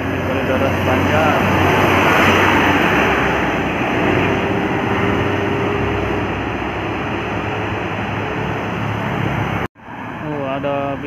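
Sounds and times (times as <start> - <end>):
heavy road traffic passing: 0.0 - 11.0.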